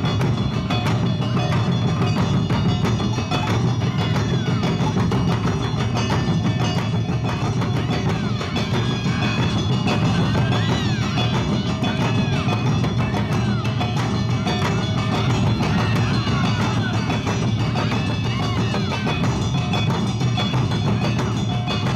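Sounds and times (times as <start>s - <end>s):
clanging gongs: 0.0s - 21.9s
drums beating: 0.0s - 21.9s.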